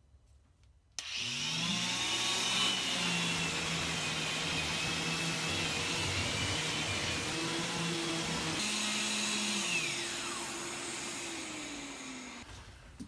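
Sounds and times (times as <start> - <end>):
dust extractor: 1.0 - 12.5
orbital sander on wood: 1.0 - 12.5.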